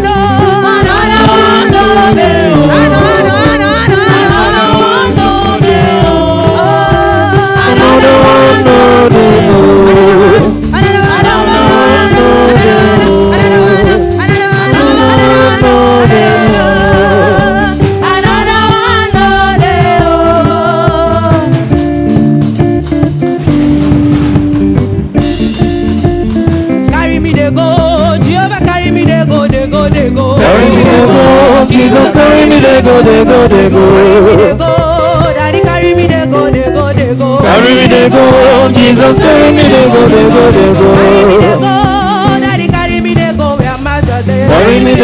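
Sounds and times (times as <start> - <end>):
person singing with vibrato: 0.0 - 21.7, 26.9 - 45.0
instrumental backing with beat: 0.0 - 45.0.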